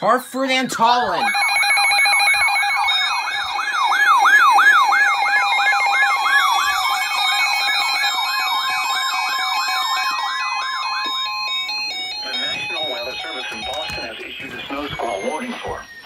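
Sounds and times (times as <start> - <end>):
electronic siren wailing: 1.1 - 16.0
steady electronic alert tones: 1.1 - 16.0.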